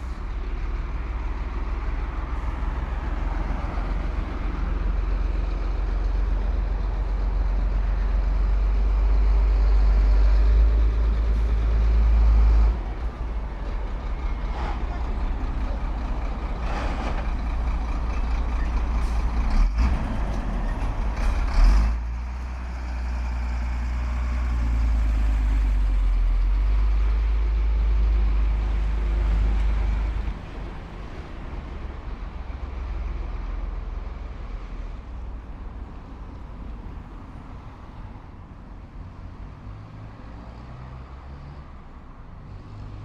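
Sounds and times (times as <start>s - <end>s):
city road traffic: 0.0s - 43.0s
heavy vehicle engine rumble: 0.0s - 43.0s.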